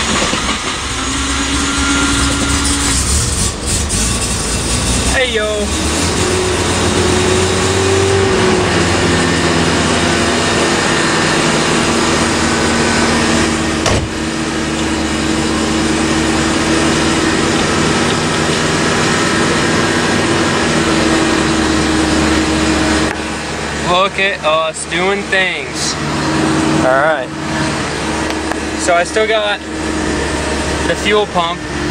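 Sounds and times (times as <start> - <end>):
rotary engine fast idling: 0.0 - 31.9.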